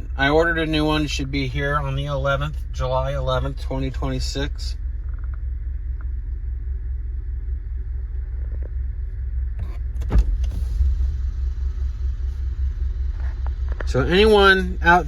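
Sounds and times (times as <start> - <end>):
low rumble of car engine: 0.0 - 15.0.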